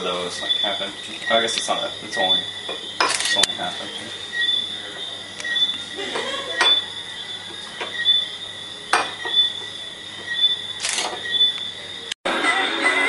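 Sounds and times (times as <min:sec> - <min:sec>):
faint high chirp: 0:00.4 - 0:11.9.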